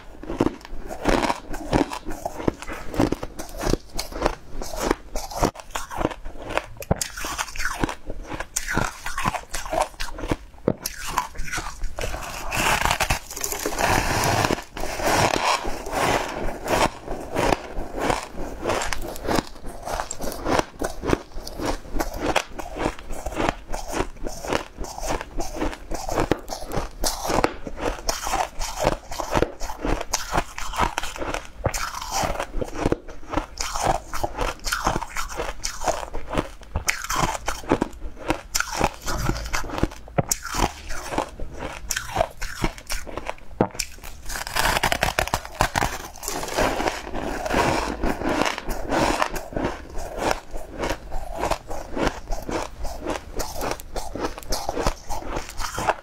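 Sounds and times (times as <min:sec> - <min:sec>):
chewing ice crunches: 0:00.2 - 0:56.0.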